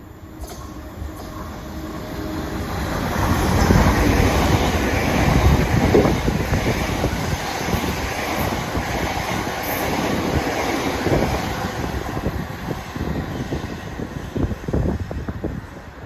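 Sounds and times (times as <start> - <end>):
passenger train rumbling past: 0.0 - 16.0.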